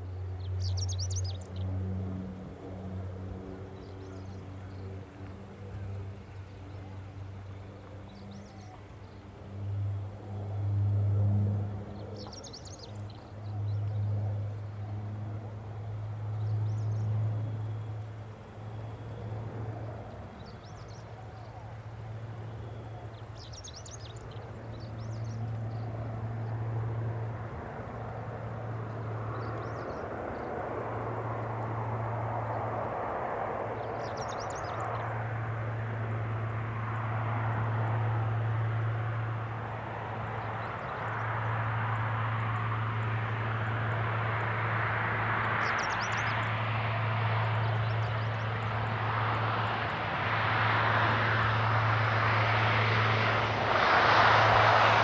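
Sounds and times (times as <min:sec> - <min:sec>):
steady low hum: 0:00.0 - 0:55.0
turboprop airliner droning: 0:00.0 - 0:55.0.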